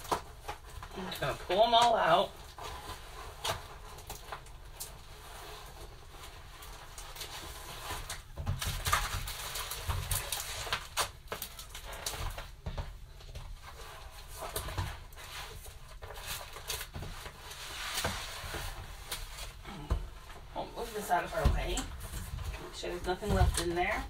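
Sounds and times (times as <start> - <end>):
plastic sheets crinkling: 0.0 - 24.0.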